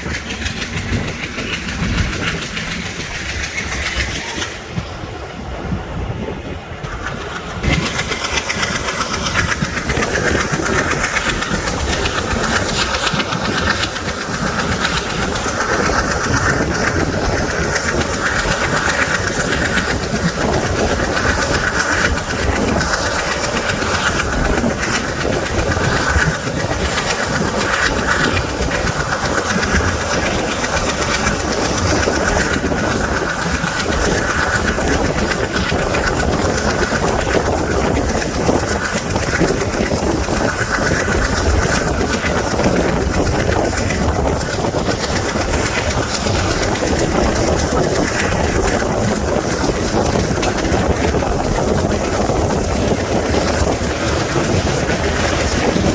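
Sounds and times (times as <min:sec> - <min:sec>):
train wheels on rails: 0:00.0 - 0:55.9.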